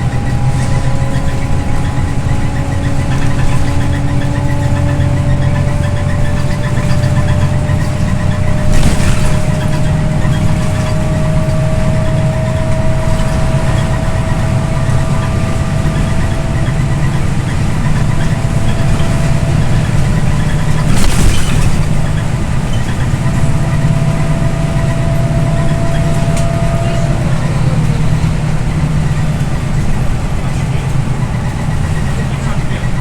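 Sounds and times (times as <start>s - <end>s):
bus engine drone with whine: 0.0s - 33.0s.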